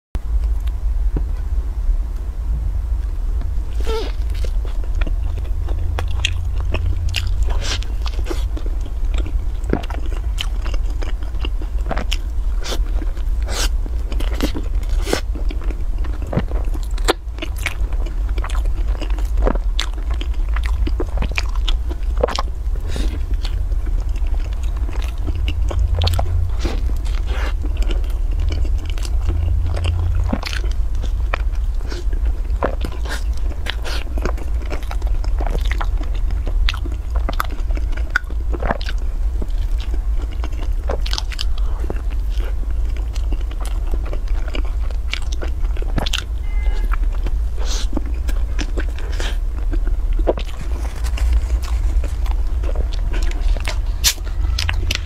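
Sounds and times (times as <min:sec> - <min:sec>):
low hum: 0:00.2 - 0:55.0
crispy food crunching: 0:03.8 - 0:55.0.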